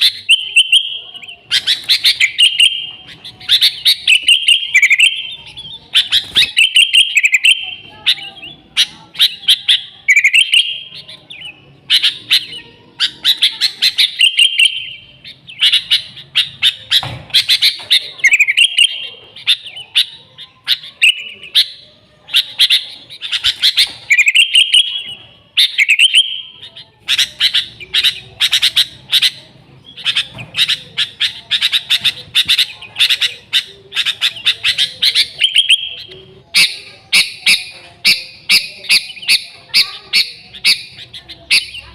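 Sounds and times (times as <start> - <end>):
bulbul singing: 0.0 - 41.9.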